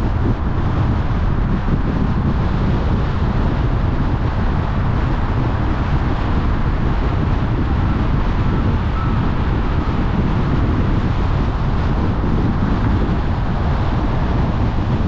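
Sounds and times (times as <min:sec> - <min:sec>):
car road noise: 0:00.0 - 0:15.0
wind rumble on microphone: 0:00.0 - 0:15.0.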